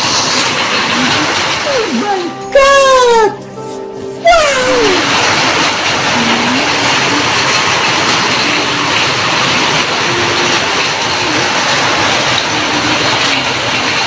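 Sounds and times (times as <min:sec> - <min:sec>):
heavy rain pouring: 0:00.0 - 0:03.4, 0:04.0 - 0:14.0.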